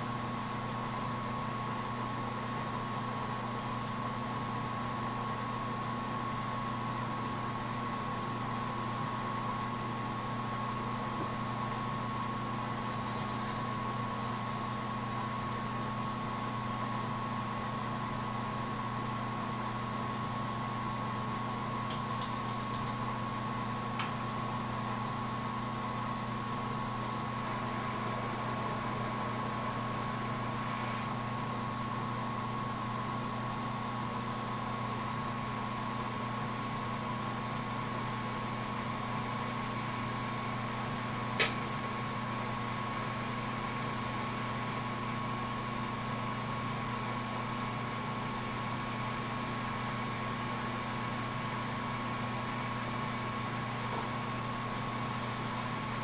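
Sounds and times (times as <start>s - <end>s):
machinery humming with thin whine: 0.0s - 56.0s.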